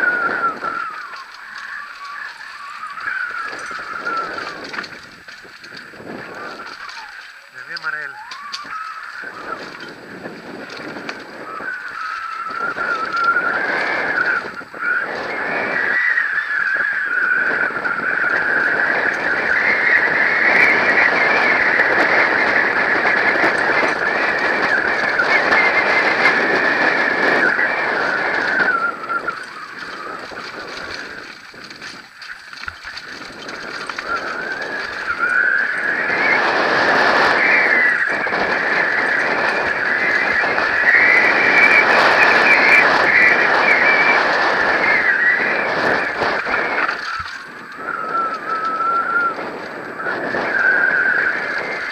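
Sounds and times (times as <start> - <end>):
tyre and wind rushing: 0.0 - 51.9.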